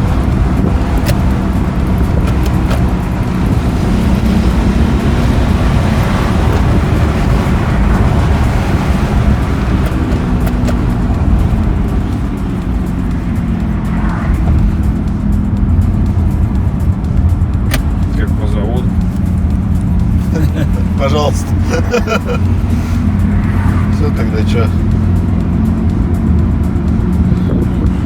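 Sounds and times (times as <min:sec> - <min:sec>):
car engine and tyre noise: 0:00.0 - 0:28.0.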